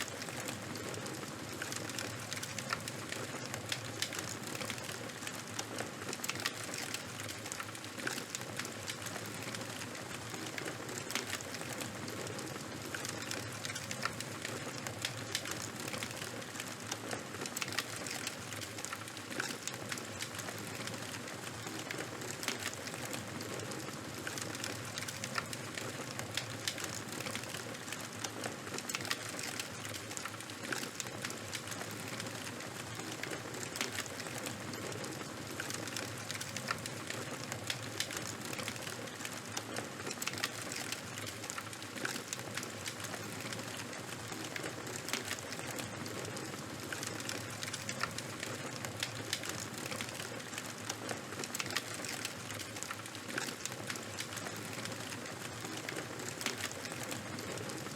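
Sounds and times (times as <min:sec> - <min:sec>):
fire crackles and pops: 0:00.0 - 0:57.9.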